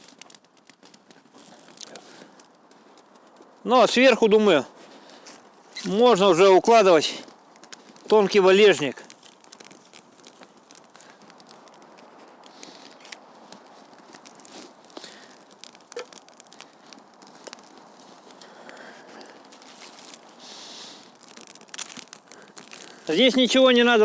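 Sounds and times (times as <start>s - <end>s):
twigs rustling onto fire: 0.0s - 24.0s
twigs snapping and crackling: 0.0s - 24.0s.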